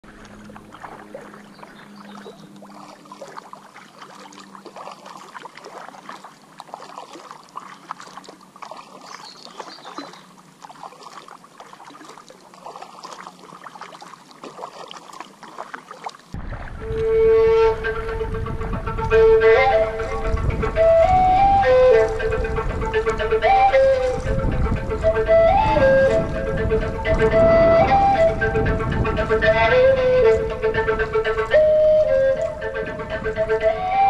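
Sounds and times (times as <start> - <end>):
paddle splashing in water: 0.0 - 34.0.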